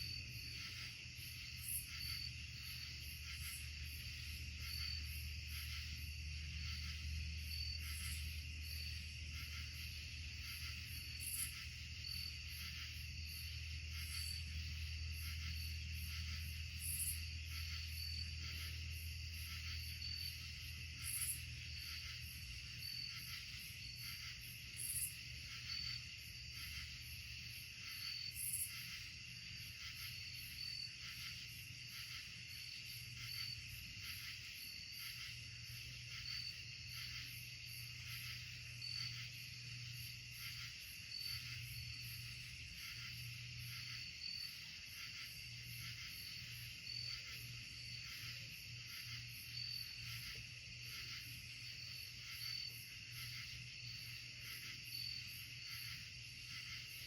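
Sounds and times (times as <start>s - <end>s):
insect chirping: 0.0s - 57.0s
insects trilling: 0.0s - 57.0s.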